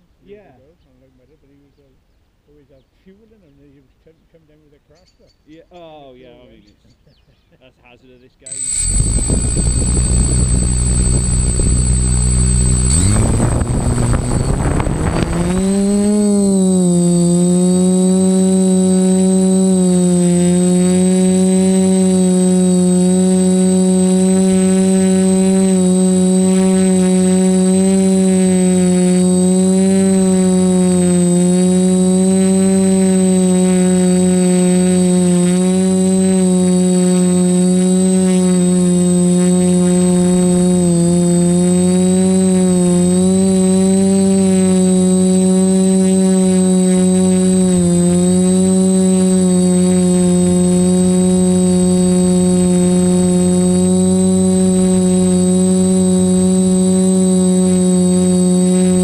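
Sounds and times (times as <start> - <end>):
quadcopter motors buzzing: 8.5 - 59.0
thin high whine: 8.5 - 59.0.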